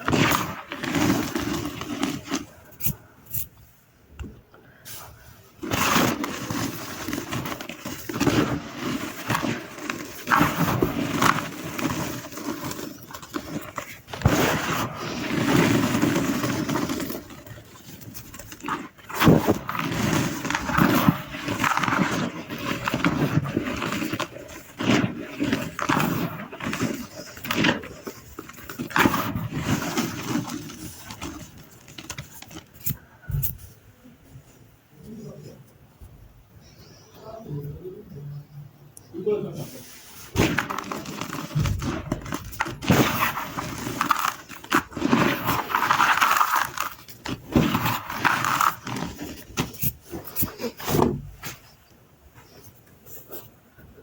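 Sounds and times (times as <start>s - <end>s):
chalk crunching and crackling: 0.0s - 3.6s, 4.8s - 33.8s, 39.6s - 53.4s.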